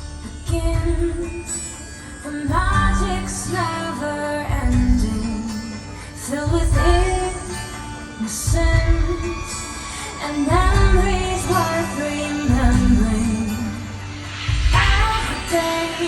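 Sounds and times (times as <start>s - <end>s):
woman singing: 0.2s - 16.0s.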